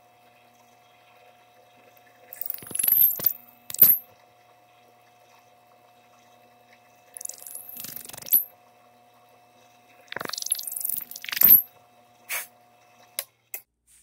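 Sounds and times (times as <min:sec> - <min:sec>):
faint motor hum: 0:00.0 - 0:13.7.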